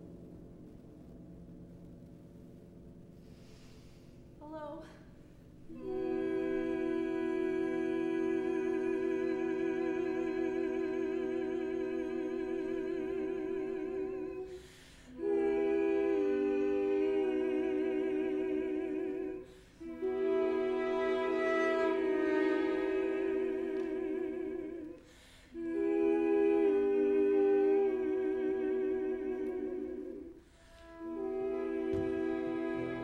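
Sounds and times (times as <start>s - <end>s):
female opera voices singing: 5.7s - 33.0s.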